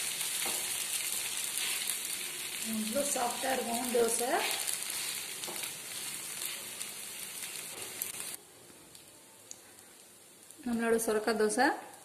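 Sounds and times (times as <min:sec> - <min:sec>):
batter sizzling on a hot pan: 0:00.0 - 0:11.6.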